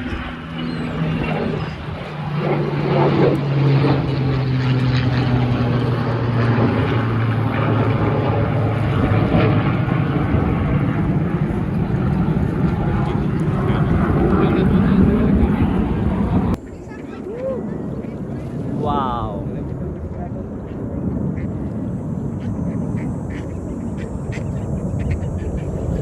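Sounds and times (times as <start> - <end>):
aircraft flying past: 0.0 - 26.0.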